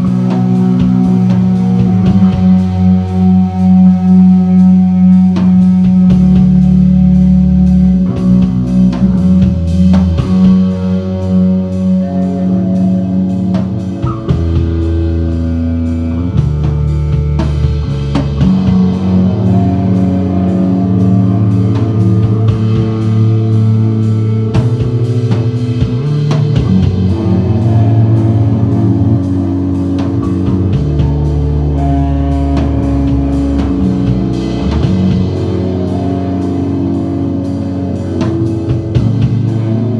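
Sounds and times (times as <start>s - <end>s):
drum kit: 0.0s - 39.9s
electric guitar: 0.0s - 39.9s
heavy sustained bass line: 0.0s - 39.9s.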